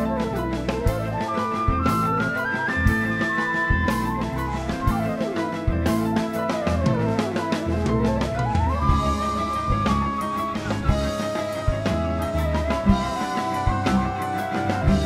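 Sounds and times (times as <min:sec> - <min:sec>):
instrumental rock music: 0:00.0 - 0:15.0.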